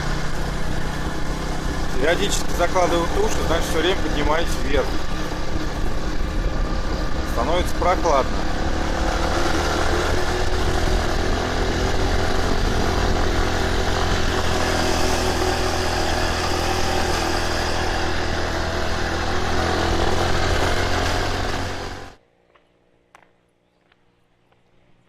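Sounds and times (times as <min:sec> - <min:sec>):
motorbike engine running: 0:00.0 - 0:22.2.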